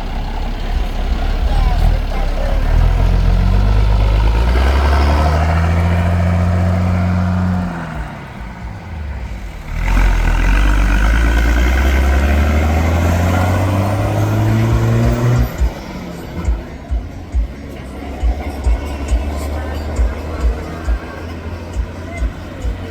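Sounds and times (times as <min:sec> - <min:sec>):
bus diesel engine revving: 0:00.0 - 0:22.9.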